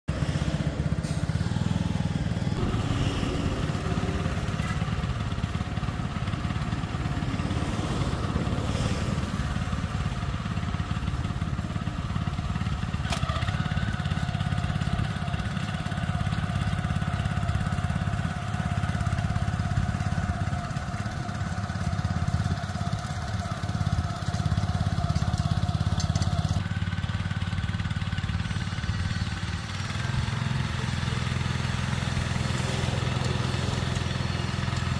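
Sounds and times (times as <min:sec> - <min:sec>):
cultivator engine running: 0:00.1 - 0:34.9.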